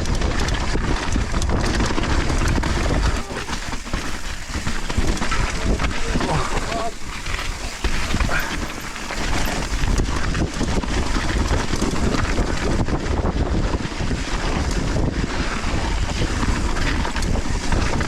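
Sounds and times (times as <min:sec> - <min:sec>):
tyres on dirt trail: 0:00.0 - 0:18.0
wind rushing over microphone: 0:00.0 - 0:18.0
bike clattering over bumps: 0:00.1 - 0:18.0.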